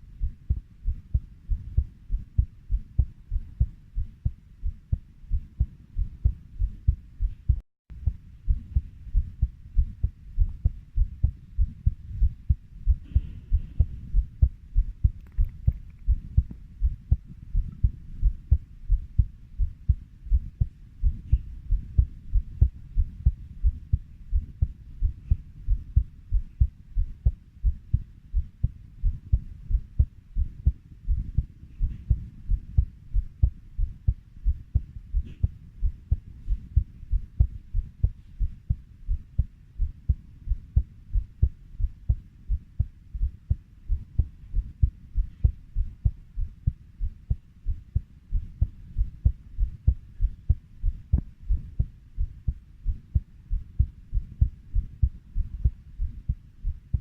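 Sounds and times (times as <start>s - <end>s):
heartbeat double thuds: 0.1s - 57.0s.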